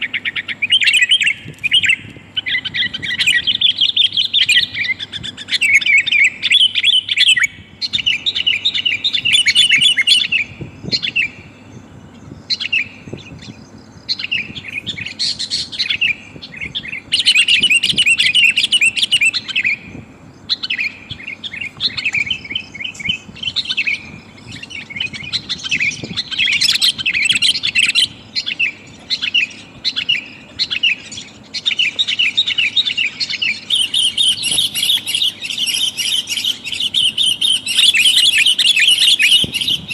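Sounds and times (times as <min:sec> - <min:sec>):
bulbul chattering call: 0:00.0 - 0:39.9.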